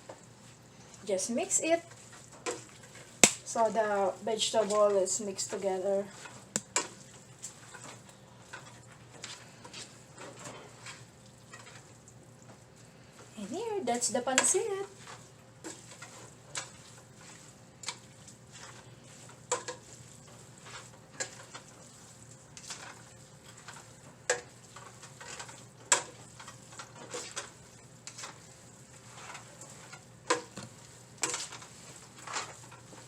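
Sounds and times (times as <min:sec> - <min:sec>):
faint simmering sizzle: 0:00.0 - 0:33.0.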